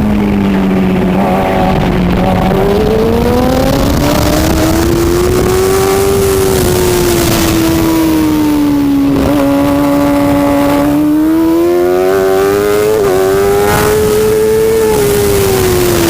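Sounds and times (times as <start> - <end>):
racing motorcycle engine revving: 0.0 - 16.0.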